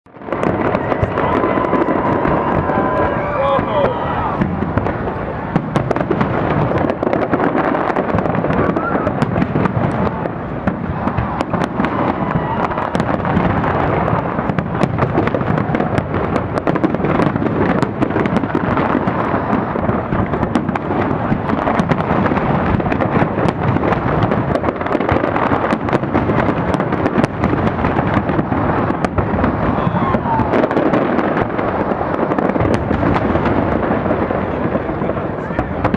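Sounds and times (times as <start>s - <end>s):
fireworks cracking and popping: 0.0s - 35.9s
fireworks rumble: 0.0s - 35.9s.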